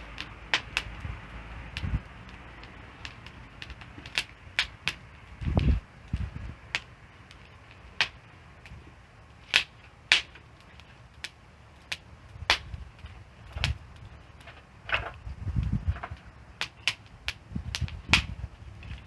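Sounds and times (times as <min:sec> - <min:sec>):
fire popping: 0:00.0 - 0:19.0
low rumble of flames: 0:00.0 - 0:19.0
wood fire crackling: 0:00.0 - 0:19.0.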